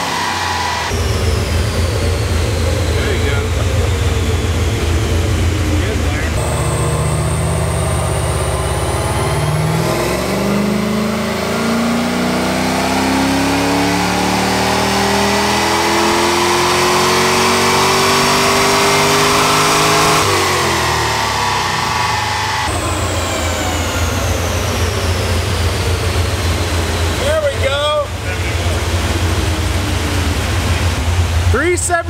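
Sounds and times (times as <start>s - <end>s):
car engine revving: 0.0s - 32.0s
dyno rollers winding down: 0.0s - 32.0s.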